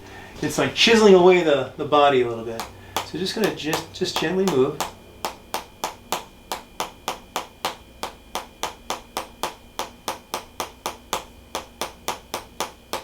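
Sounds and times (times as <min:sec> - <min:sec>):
mallet tapping on body: 0:02.0 - 0:13.0.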